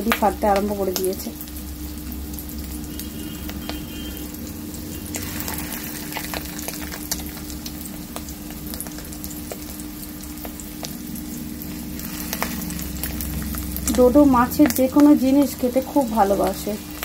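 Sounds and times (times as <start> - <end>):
oil sizzling: 0.0 - 17.0
low hum: 1.3 - 17.0.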